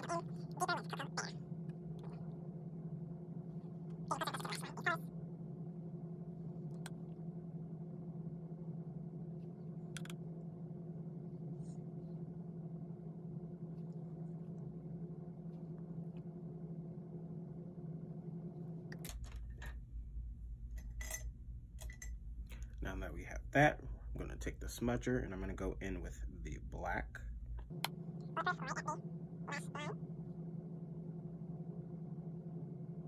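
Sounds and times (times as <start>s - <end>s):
deeper drone: 0.0s - 33.0s
low room hum: 0.0s - 33.0s.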